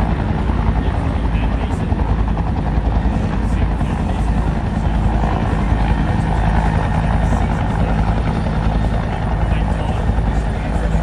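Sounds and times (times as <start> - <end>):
helicopter hovering: 0.0 - 11.0.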